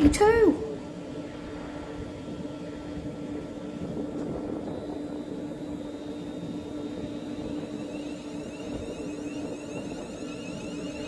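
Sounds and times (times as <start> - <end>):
faint high whine: 0.0 - 11.0
train equipment humming: 0.0 - 11.0.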